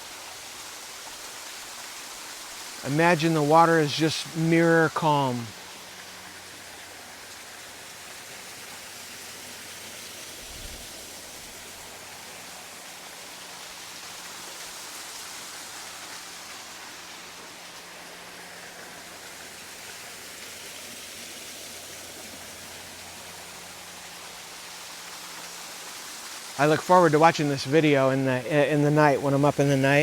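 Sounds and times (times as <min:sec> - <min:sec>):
waterfall and stream rushing: 0:00.0 - 0:30.0.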